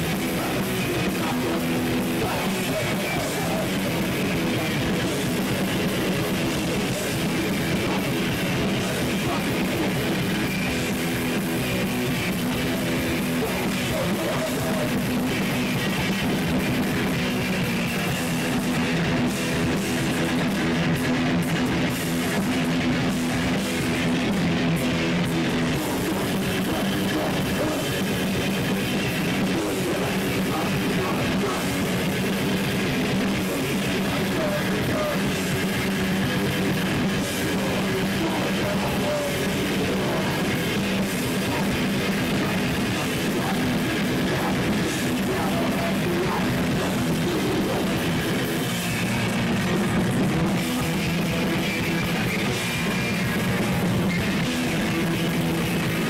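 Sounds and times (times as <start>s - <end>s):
bass guitar: 0.0s - 56.0s
distorted electric guitars: 0.0s - 56.0s
drum kit: 0.0s - 56.0s.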